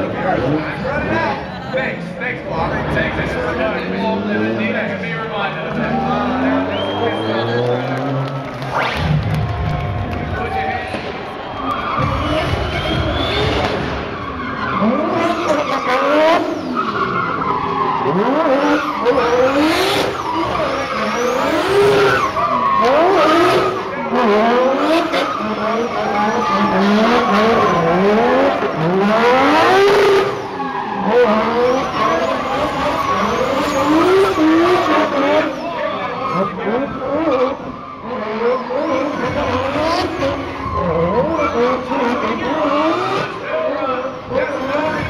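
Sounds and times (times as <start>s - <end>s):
tyres skidding and squealing: 0.0s - 45.0s
car engine revving hard: 2.0s - 10.1s, 12.0s - 14.1s, 14.7s - 45.0s.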